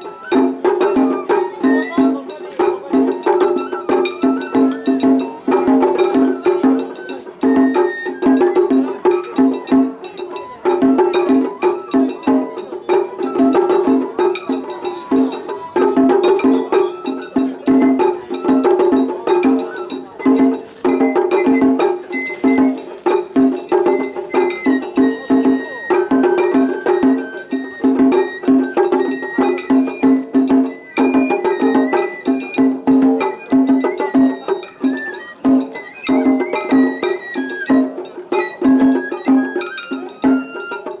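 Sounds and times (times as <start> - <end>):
high bamboo flute melody: 0.0 - 41.0
small drums beating: 0.0 - 41.0.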